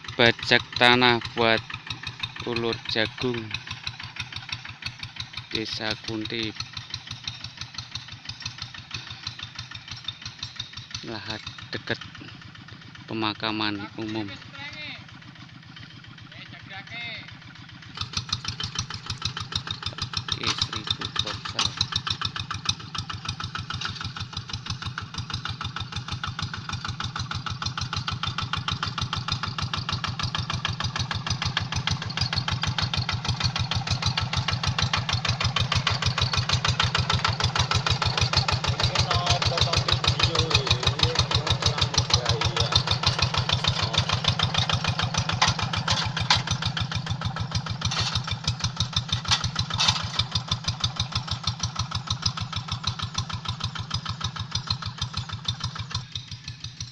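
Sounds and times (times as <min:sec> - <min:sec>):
diesel engine chugging: 0:00.0 - 0:56.9.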